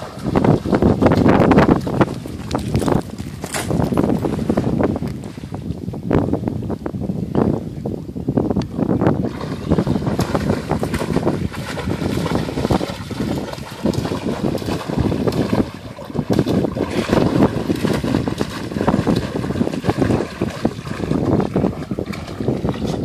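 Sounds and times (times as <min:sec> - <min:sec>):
water splashing and churning: 0:00.0 - 0:06.2, 0:08.9 - 0:23.0
wind buffeting microphone: 0:00.0 - 0:23.0.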